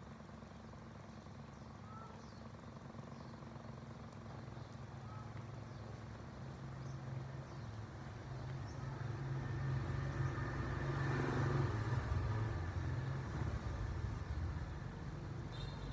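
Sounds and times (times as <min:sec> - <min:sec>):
vehicle engine humming: 0:00.0 - 0:15.9.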